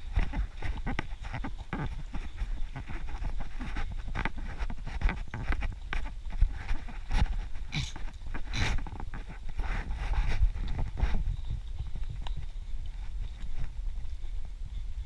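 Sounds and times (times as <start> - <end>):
camera jostling rumble: 0.0 - 15.0
wind on microphone: 0.0 - 15.0.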